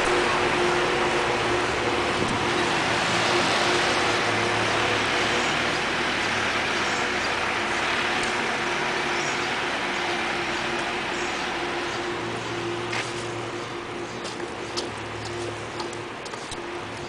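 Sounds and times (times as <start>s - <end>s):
tyre hiss on wet street: 0.0s - 17.0s
vehicle engine running: 0.0s - 17.0s.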